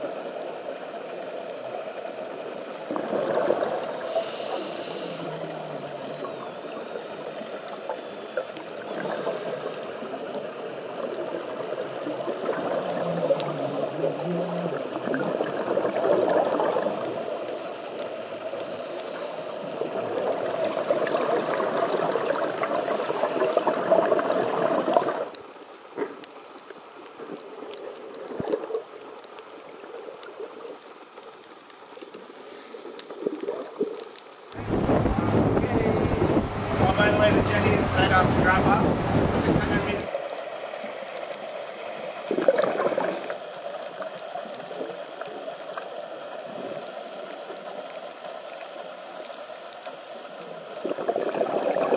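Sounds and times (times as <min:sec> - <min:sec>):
underwater air bubbling: 0:00.0 - 0:26.2, 0:32.0 - 0:51.9.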